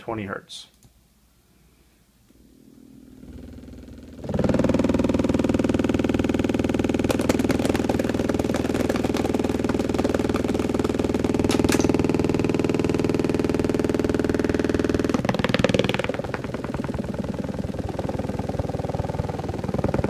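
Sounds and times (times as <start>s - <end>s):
subwoofer bass tone buzzing: 2.3s - 20.0s.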